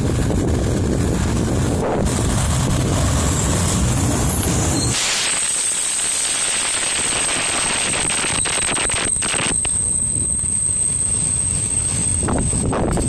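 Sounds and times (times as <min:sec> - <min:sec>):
freight train wheels rushing on rail: 0:00.0 - 0:13.0
high whine: 0:00.0 - 0:13.0.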